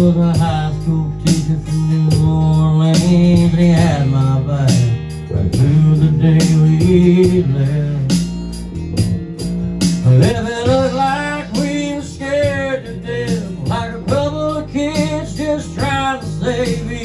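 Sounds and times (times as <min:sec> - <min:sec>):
men singing: 0:00.0 - 0:08.1, 0:10.0 - 0:17.0
acoustic guitar strumming: 0:00.0 - 0:17.0
electric bass: 0:00.0 - 0:17.0
steady drum beat: 0:00.0 - 0:17.0.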